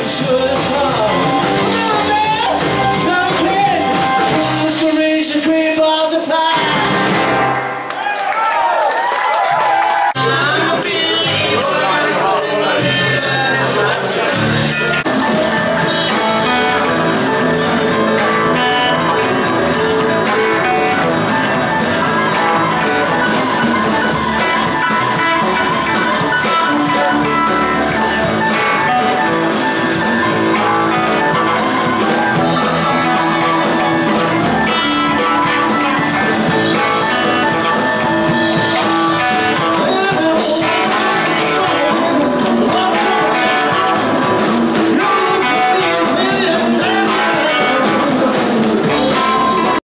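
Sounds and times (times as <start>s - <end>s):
keyboard: 0.0s - 7.7s, 10.1s - 49.8s
guitars: 0.0s - 7.9s, 10.2s - 49.8s
drums: 0.0s - 49.8s.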